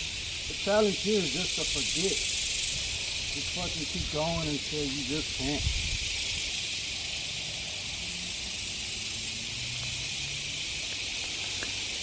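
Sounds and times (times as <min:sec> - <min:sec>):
insect chorus droning hiss: 0:00.0 - 0:12.0.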